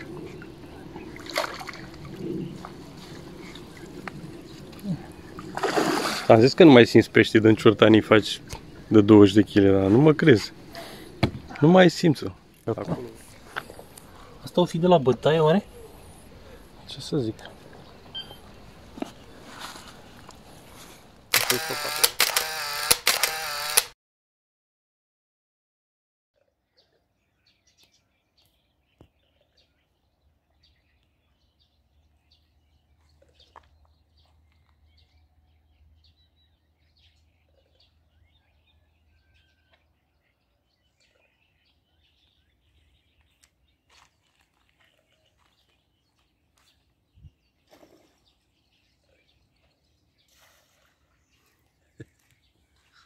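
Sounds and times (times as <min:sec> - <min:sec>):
small birds chirping: 0:00.0 - 0:22.0, 0:26.5 - 0:53.0.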